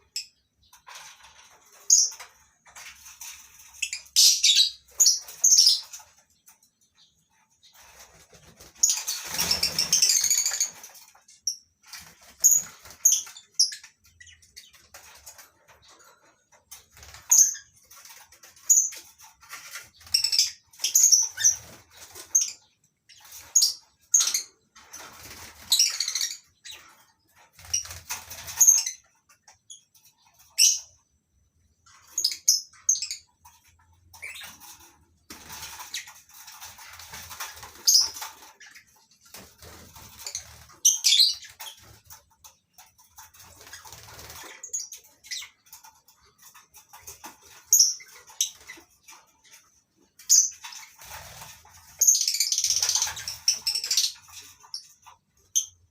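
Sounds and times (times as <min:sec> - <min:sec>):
birds chirping and squawking: 0:00.0 - 0:55.9.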